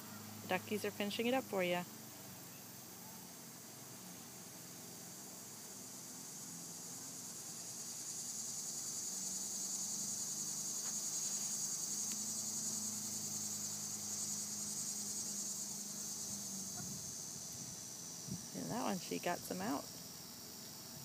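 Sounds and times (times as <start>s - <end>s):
insects chorus: 0.0s - 21.0s.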